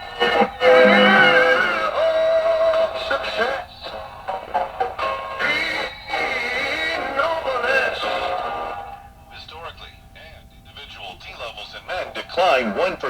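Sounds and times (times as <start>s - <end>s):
music with singing on radio: 0.0s - 13.0s.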